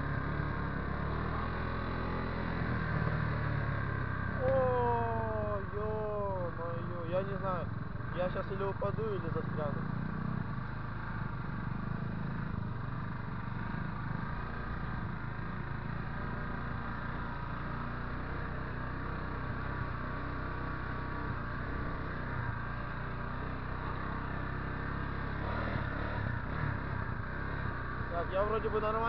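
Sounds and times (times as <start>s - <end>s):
motorcycle engine running: 0.0s - 29.0s
road noise: 0.0s - 29.0s.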